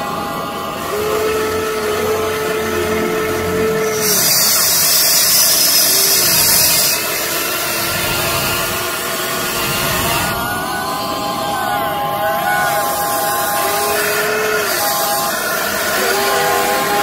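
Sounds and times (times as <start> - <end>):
model excavator motor whine: 0.0 - 17.0
loud hiss: 0.1 - 17.0.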